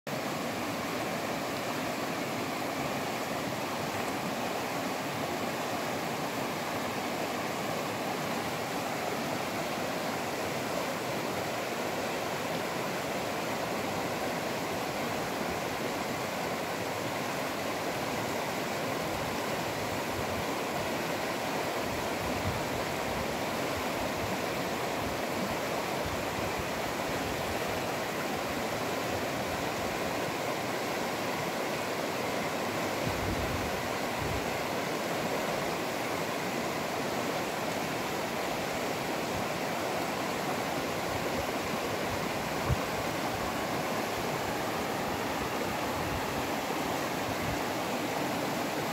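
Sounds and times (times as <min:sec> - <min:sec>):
river rushing over stones: 0:00.1 - 0:48.9.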